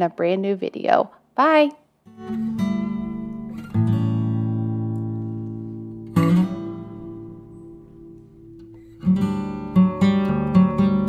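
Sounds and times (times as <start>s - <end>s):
strummed acoustic guitar chords: 2.1s - 11.0s.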